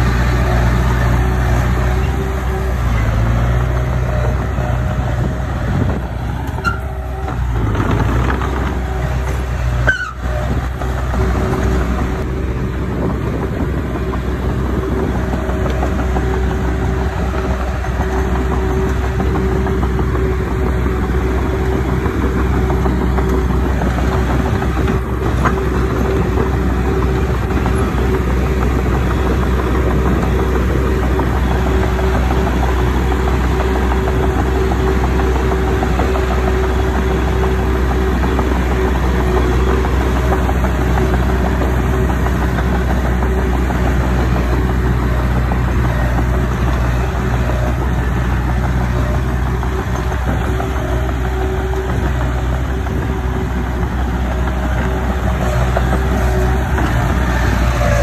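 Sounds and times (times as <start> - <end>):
constant whine: 0.0 - 58.0
diesel engine running: 0.0 - 58.0.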